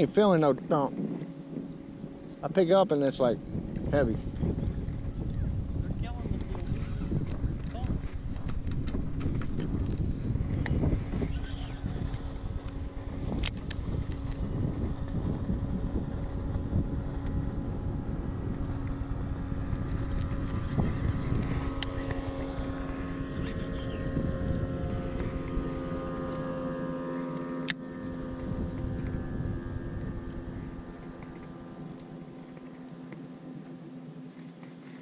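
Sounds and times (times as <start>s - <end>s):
electric trolling motor humming: 0.0s - 35.0s
wind and water rumble: 0.0s - 35.0s.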